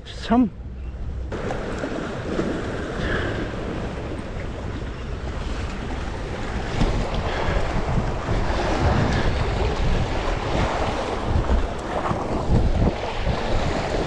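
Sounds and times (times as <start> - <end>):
wind buffeting microphone: 0.6 - 14.0
waves breaking against rocks: 1.3 - 14.0.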